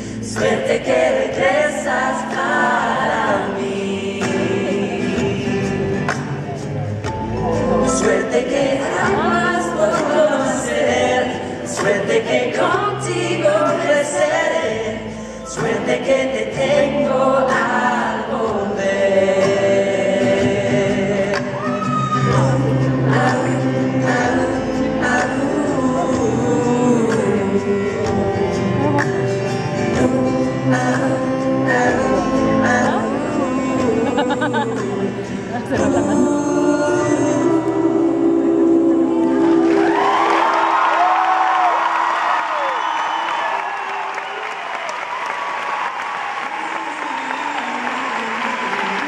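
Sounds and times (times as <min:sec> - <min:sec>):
upright bass: 0:00.0 - 0:39.8
acoustic guitar: 0:00.0 - 0:40.8
voices singing in harmony: 0:00.0 - 0:41.8.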